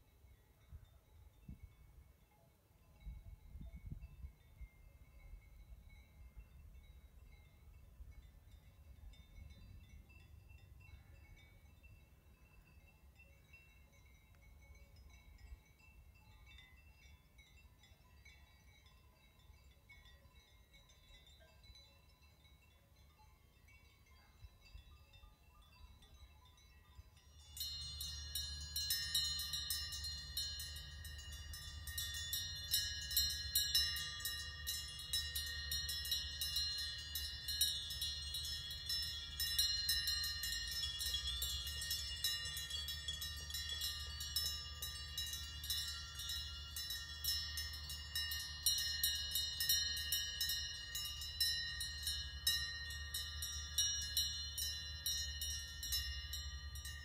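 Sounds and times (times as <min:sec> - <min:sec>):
cowbells clanking: 0:02.9 - 0:57.0.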